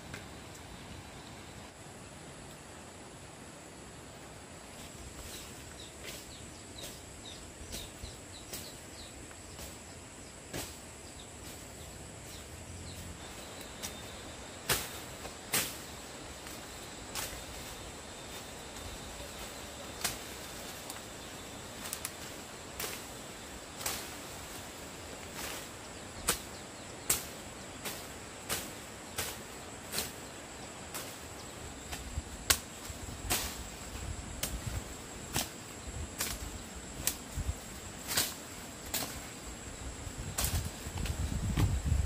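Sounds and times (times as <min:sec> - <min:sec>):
faint hiss: 0:00.0 - 0:42.0.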